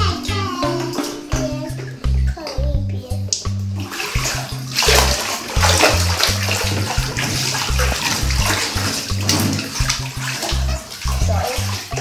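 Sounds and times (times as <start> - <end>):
bath water splashing: 0.0 - 12.0
bouncy bass-line music: 0.0 - 12.0
hands slapping water: 0.2 - 12.0.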